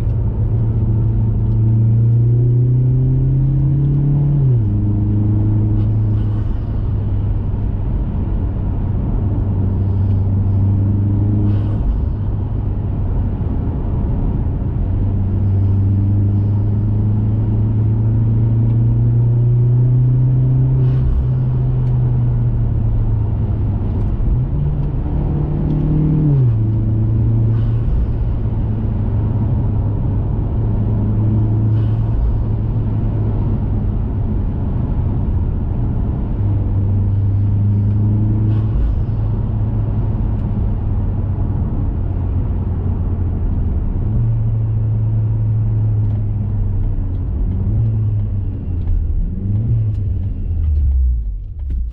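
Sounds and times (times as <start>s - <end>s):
car exhaust drone: 0.0s - 51.9s.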